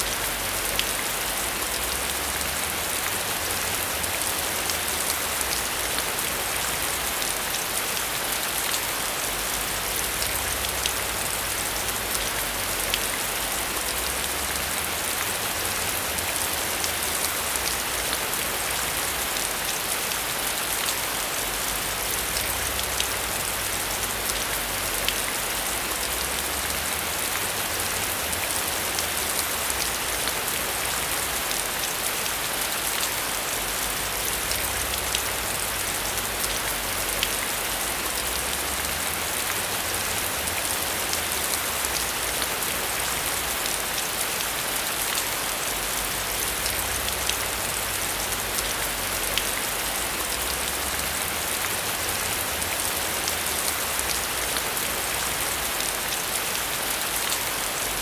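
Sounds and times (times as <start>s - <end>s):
heavy rain with sharp drop hits: 0.0s - 58.0s.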